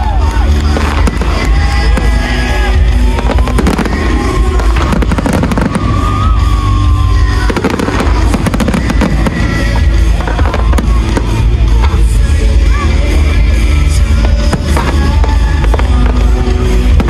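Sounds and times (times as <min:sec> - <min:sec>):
music playing: 0:00.0 - 0:17.0
fireworks bangs: 0:00.2 - 0:17.0.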